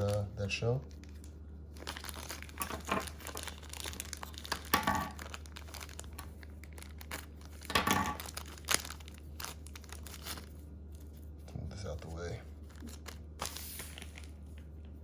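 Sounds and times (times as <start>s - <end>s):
packaging crinkling and tearing: 0.0s - 11.2s, 11.8s - 14.9s.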